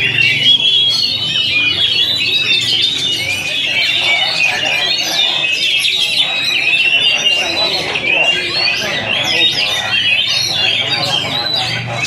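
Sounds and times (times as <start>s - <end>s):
birds singing and chattering: 0.0s - 12.0s.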